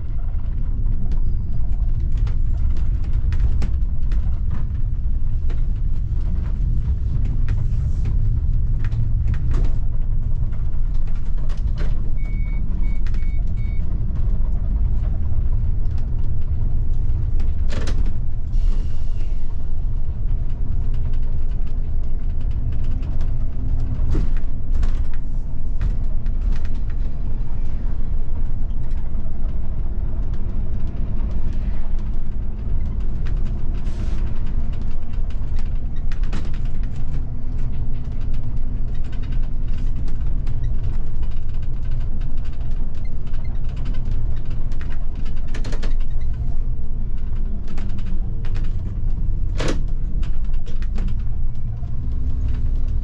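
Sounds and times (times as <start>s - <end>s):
bus engine and road rumble: 0.0s - 53.0s
creaks and rattles of bus body: 0.0s - 53.0s.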